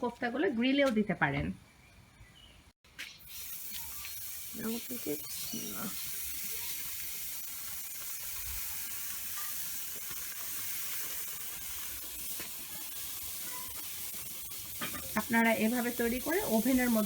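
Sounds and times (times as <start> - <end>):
meat sizzling in a pan: 3.2 - 17.0.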